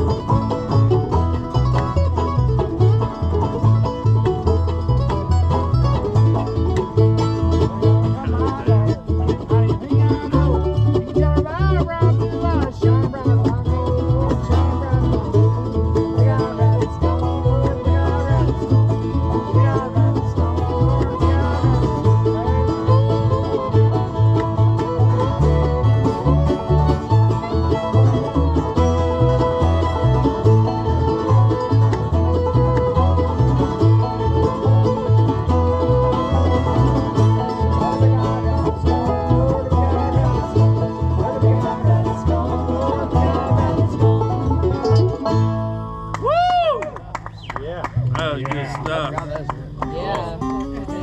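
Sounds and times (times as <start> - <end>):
banjo picking: 0.0 - 51.0
bass line: 0.0 - 51.0
fiddle: 0.0 - 51.0
strummed guitar: 0.0 - 51.0.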